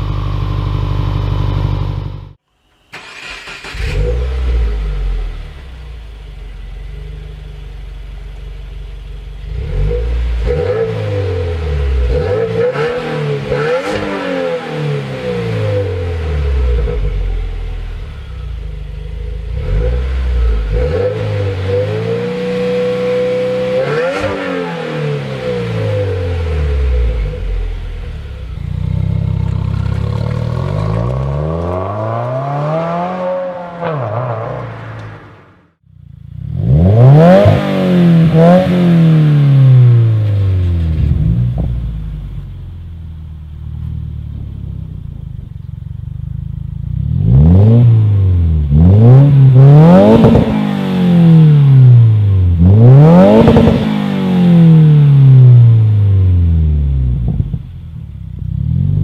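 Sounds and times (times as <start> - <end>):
car engine revving: 3.0 - 59.0.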